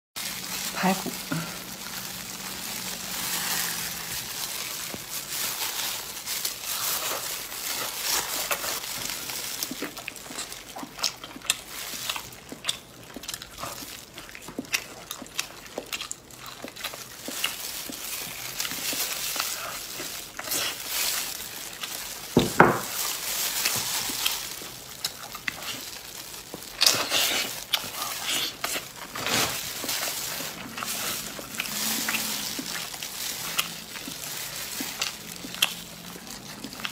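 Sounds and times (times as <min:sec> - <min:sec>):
chewing and tearing meat: 0:00.2 - 0:36.9
plastic gloves crinkling: 0:00.2 - 0:36.9.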